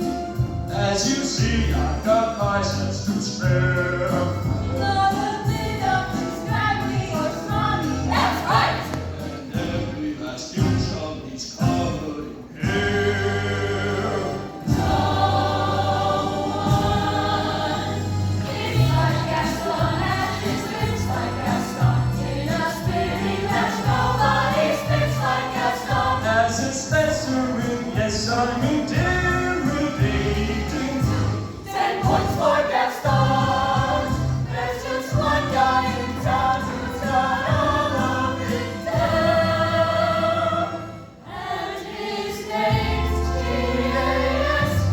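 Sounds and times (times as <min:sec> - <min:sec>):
choir singing in harmony: 0:00.0 - 0:44.9
instrumental accompaniment: 0:00.0 - 0:44.9.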